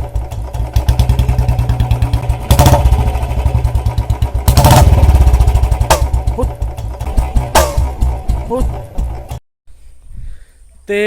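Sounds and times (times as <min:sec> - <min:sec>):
motorcycle engine thumping: 0:00.0 - 0:09.4
loud sharp exhaust pops: 0:00.2 - 0:09.4.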